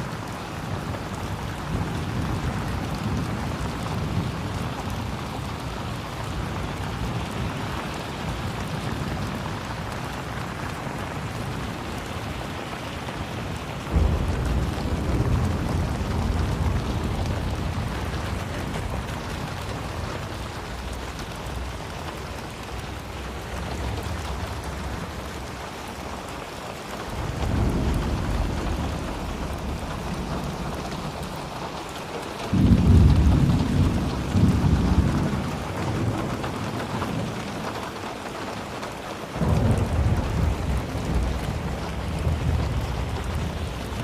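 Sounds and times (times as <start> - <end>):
steady rain falling: 0.0 - 44.0
thunder rumbling: 0.0 - 44.0.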